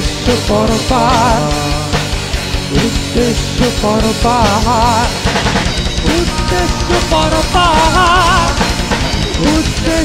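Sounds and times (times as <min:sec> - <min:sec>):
male singer: 0:00.0 - 0:02.1, 0:02.7 - 0:05.3, 0:06.0 - 0:10.0
bass guitar: 0:00.0 - 0:10.0
drum kit: 0:00.0 - 0:10.0
electric guitar: 0:00.0 - 0:10.0.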